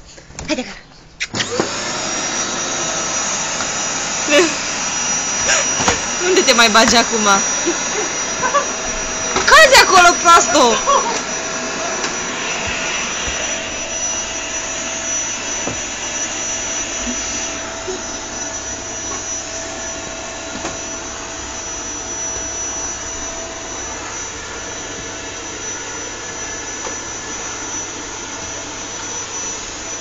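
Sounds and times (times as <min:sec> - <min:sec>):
vacuum cleaner running: 0:01.3 - 0:30.0.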